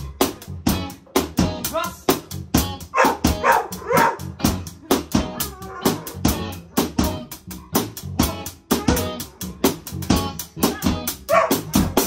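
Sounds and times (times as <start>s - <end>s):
amplified guitar low notes: 0.0s - 12.0s
drum kit rock beat: 0.0s - 12.0s.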